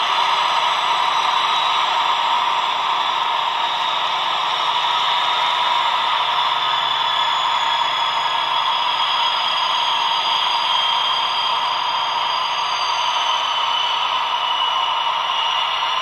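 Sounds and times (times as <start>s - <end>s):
diesel locomotive engine running: 0.0s - 16.0s
faint high whine: 0.0s - 16.0s.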